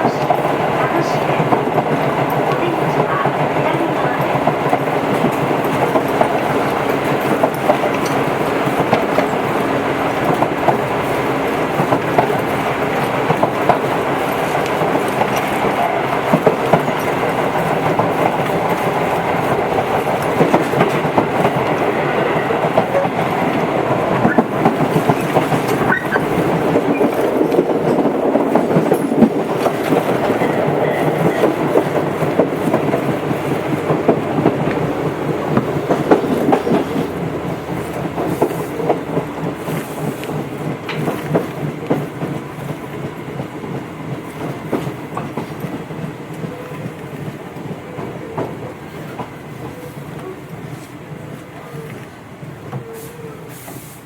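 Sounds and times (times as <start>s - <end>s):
train running on rails: 0.0s - 54.0s
wheels clicking over rail joints: 0.0s - 54.0s.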